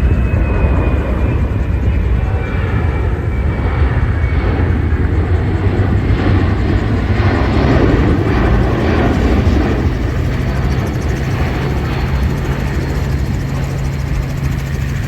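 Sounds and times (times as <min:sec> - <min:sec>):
aircraft engine rumble: 0:00.0 - 0:15.0.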